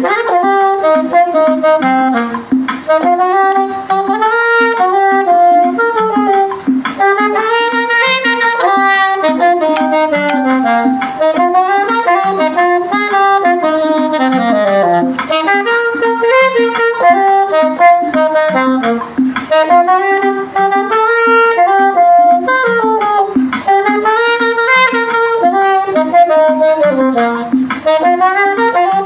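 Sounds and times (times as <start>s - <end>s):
rhythmic accompaniment: 0.0s - 29.0s
saxophone playing hymn melody: 0.0s - 29.0s.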